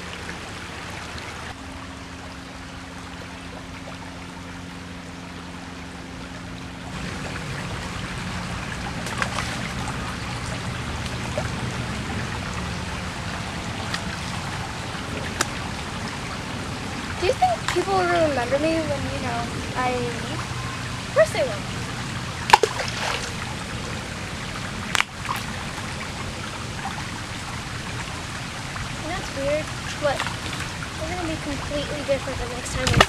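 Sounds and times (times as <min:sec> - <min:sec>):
creek water trickling over rocks: 0:00.0 - 0:33.0
low steady hum: 0:00.0 - 0:33.0.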